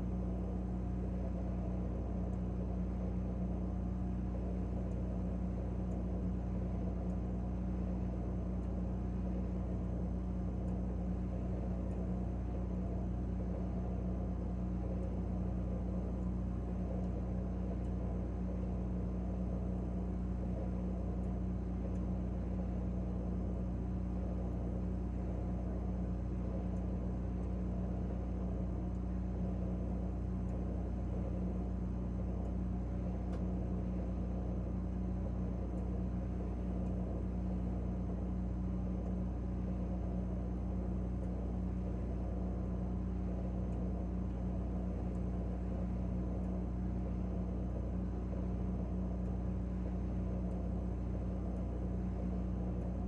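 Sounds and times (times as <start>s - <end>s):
refrigerator humming: 0.0s - 53.0s.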